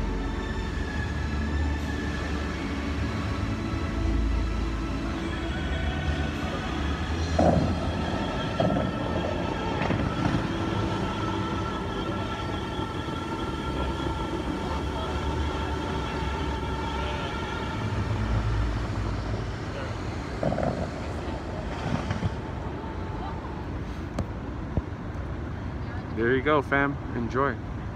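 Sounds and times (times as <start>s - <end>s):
fountain water jets splashing: 0.0s - 24.5s
low rumble: 0.0s - 26.1s.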